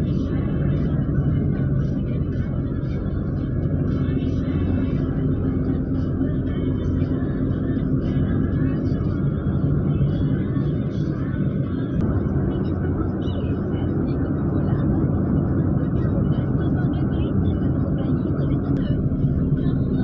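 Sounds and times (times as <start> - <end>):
car road and engine rumble: 0.0 - 20.0
low hum: 0.0 - 20.0.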